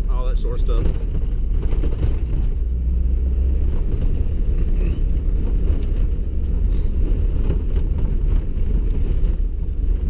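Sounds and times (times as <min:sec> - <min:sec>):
vehicle driving over snow and ice: 0:00.0 - 0:10.0.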